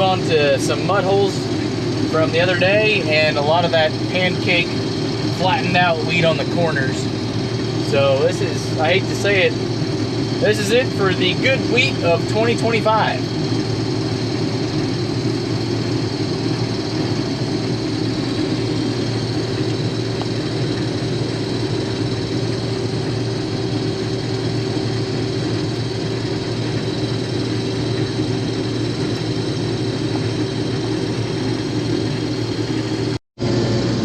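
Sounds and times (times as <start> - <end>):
combine harvester engine droning: 0.0 - 34.0.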